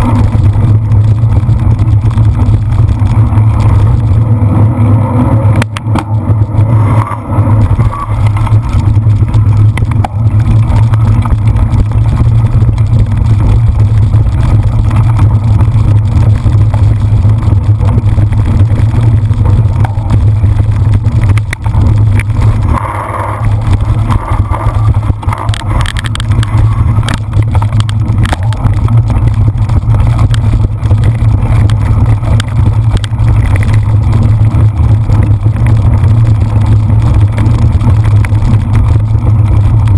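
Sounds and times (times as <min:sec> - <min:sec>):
bike knocks and rattles: 0:05.5 - 0:39.9.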